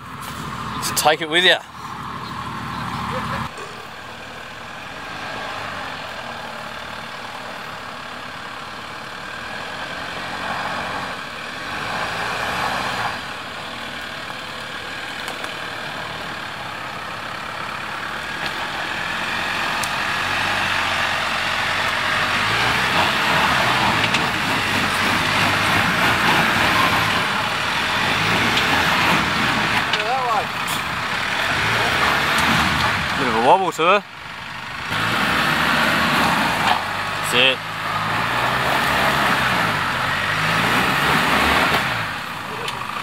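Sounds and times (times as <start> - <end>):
vehicle engine driving off-road: 0.0 - 43.0.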